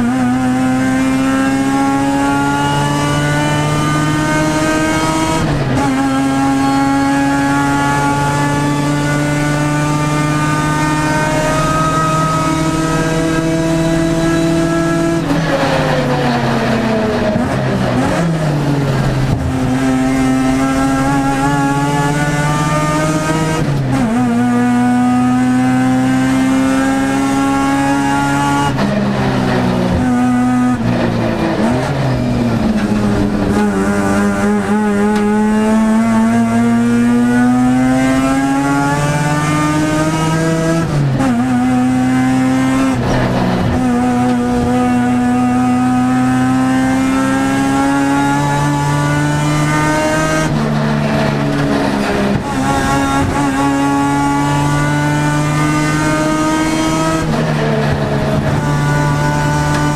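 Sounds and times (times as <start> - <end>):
rotary racing engine: 0.0 - 59.9.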